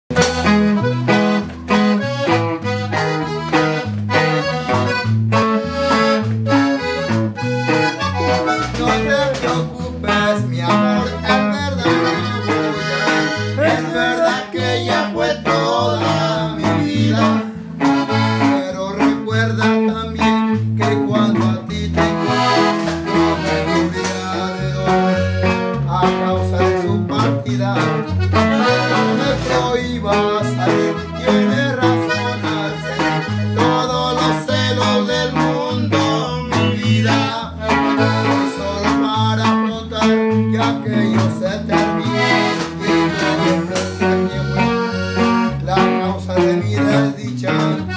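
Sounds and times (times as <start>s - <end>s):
bajo sexto guitar: 0.0s - 47.9s
button accordion: 0.1s - 47.9s
electric bass: 0.1s - 47.9s.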